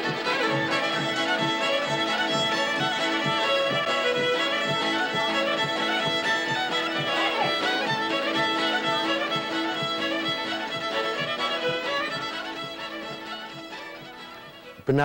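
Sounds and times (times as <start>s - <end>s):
fiddle music with steady beat: 0.0s - 15.0s.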